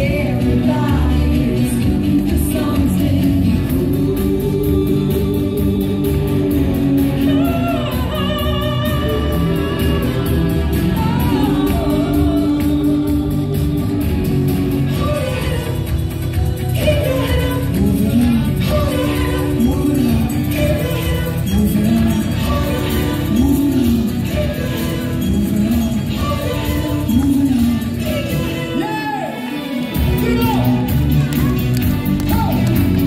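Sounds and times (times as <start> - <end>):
live pop song through speakers: 0.0 - 33.0.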